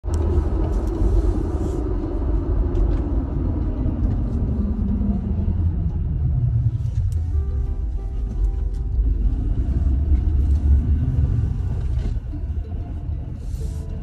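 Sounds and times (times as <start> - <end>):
road and engine rumble inside vehicle: 0.0 - 14.0.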